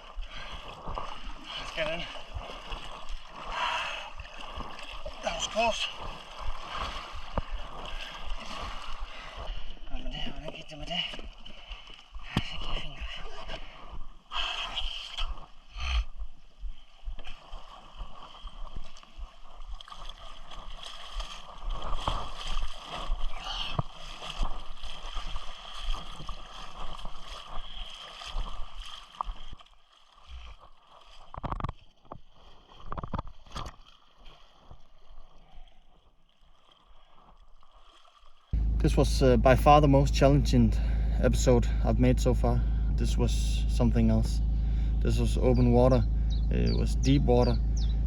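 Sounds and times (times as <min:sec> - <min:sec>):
water sloshing around kayak: 0:00.0 - 0:48.0.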